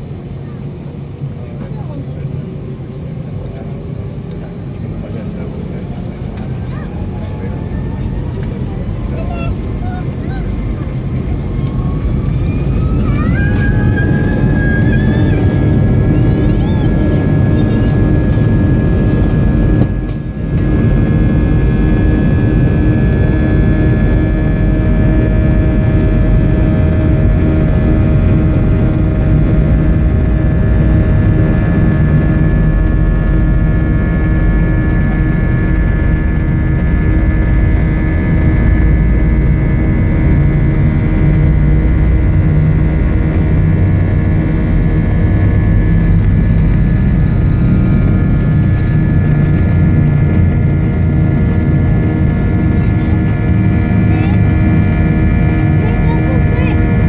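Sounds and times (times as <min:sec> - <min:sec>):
jet engine rumble in cabin: 0:00.0 - 0:57.0
jet engine whine: 0:00.0 - 0:57.0.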